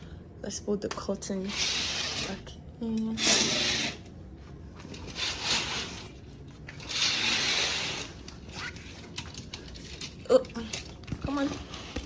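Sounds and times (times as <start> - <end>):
curtain hooks sliding along rail: 1.4 - 4.1, 4.8 - 12.0.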